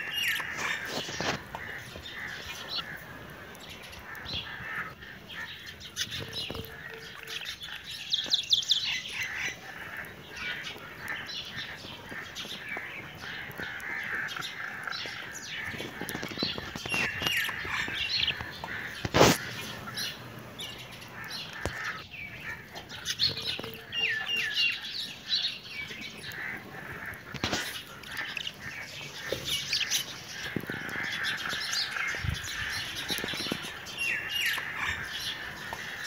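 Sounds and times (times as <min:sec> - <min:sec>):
budgerigars chirping: 0:00.0 - 0:36.0.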